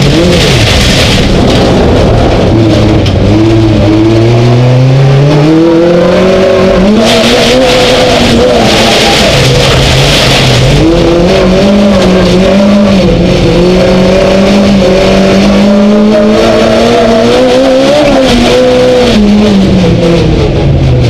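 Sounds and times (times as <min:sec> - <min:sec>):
race car engine at high revs: 0:00.0 - 0:21.0.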